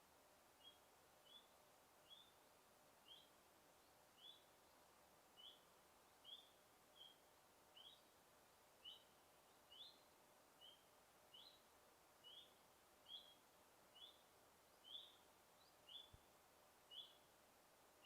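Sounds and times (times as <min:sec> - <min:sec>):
faint forest hiss: 0:00.0 - 0:18.0
bird chirping: 0:00.6 - 0:04.8, 0:05.4 - 0:08.1, 0:08.8 - 0:16.3, 0:16.9 - 0:17.3.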